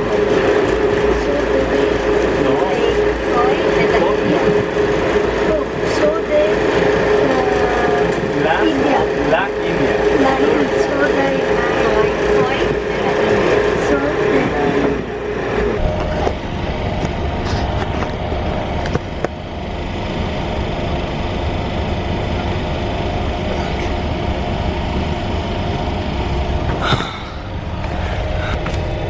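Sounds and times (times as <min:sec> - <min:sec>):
train running noise from inside: 0:00.0 - 0:29.0.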